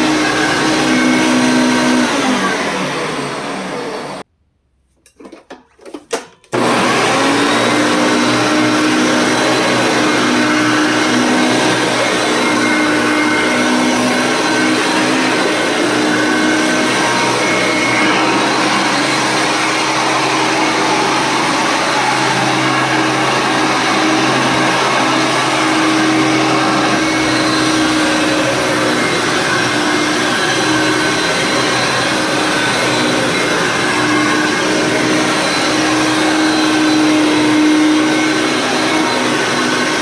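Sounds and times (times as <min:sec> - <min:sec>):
upright vacuum cleaner running: 0:00.0 - 0:04.3, 0:06.5 - 0:40.0.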